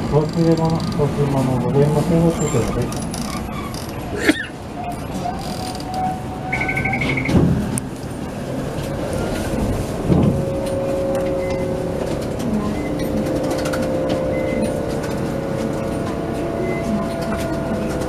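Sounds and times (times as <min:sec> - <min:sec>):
wheels rumbling on rails: 0:00.0 - 0:18.0.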